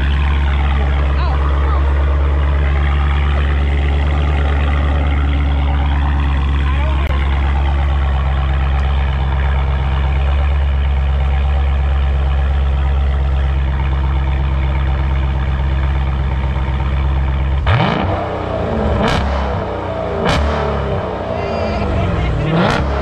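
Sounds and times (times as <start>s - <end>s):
car engine idling: 0.0s - 23.0s
engine revving: 0.0s - 23.0s.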